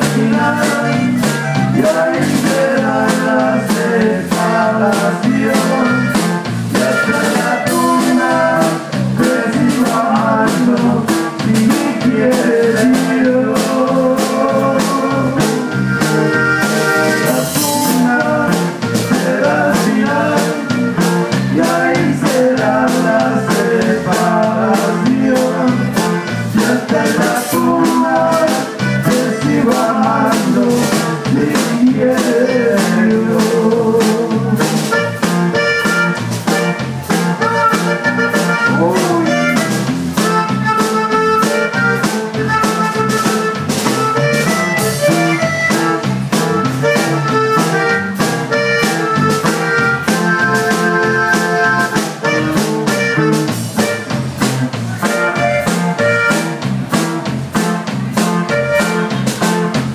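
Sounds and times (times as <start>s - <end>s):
accordion melody: 0.0s - 59.9s
acoustic guitar: 0.0s - 59.9s
drum kit beat: 0.0s - 59.9s
electric bass: 0.0s - 59.9s.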